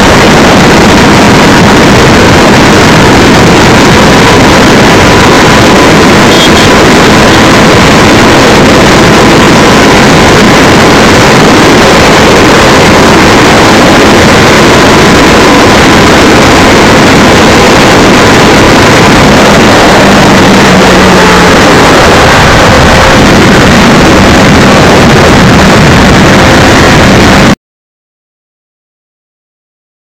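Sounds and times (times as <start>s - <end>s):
motorcycle engine: 0.0s - 27.6s
wind rushing over microphone: 0.0s - 27.6s.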